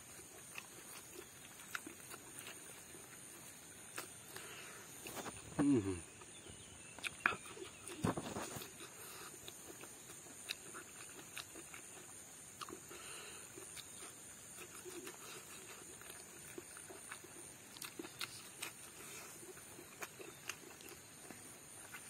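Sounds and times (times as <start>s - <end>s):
man chewing and lip smacking: 0.0s - 22.0s.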